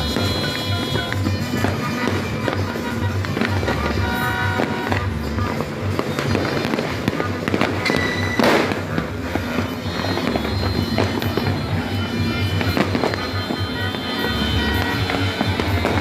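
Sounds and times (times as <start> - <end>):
fireworks crackling and popping: 0.0 - 16.0
music with pulsing bass: 0.0 - 16.0.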